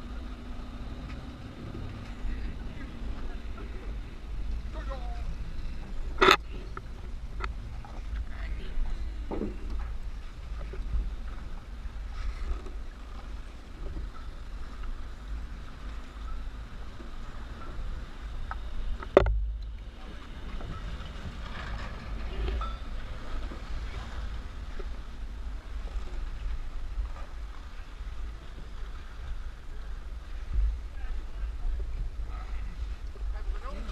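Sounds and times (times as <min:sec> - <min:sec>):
low rumble: 0:00.0 - 0:33.9.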